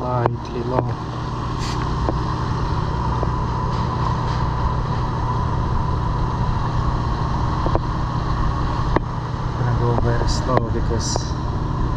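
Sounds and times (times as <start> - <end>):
refrigeration compressor humming: 0.0 - 11.9.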